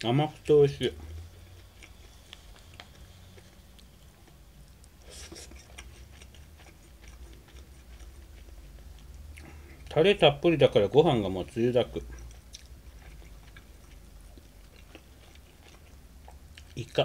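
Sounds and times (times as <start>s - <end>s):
person chewing food: 0.0s - 10.0s, 10.8s - 17.0s
low steady hum: 0.0s - 17.0s.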